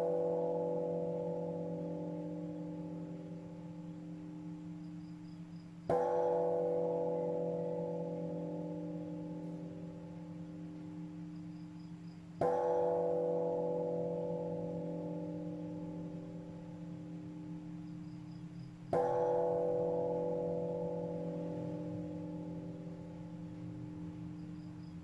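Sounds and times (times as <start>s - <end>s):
deep meditation bell ringing: 0.0s - 25.0s.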